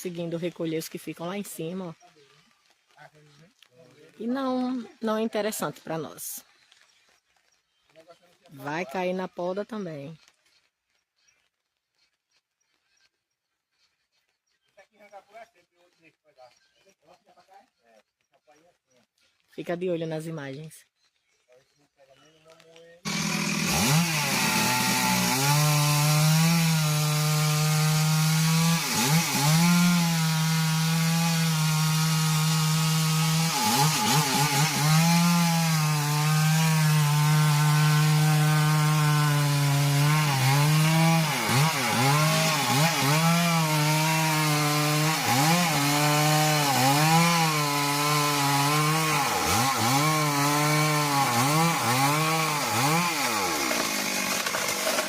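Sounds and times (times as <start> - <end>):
chainsaw cutting wood: 3.6 - 19.8, 22.5 - 55.0.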